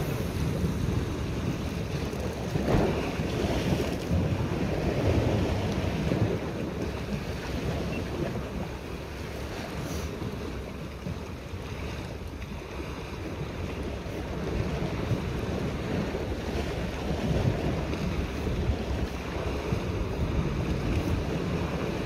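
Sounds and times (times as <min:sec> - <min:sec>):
waves washing against rocks: 0:00.0 - 0:22.0
wind buffeting microphone: 0:00.0 - 0:22.0.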